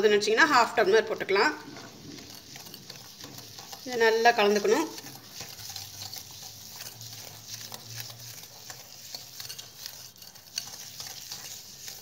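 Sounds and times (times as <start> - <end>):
mixing butter scraping and squishing: 0.0 - 12.0.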